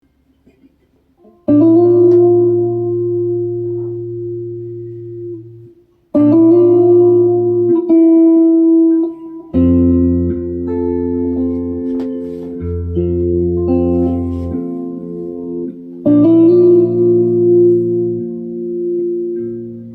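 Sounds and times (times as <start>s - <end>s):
guitar chords ringing: 1.2s - 19.9s.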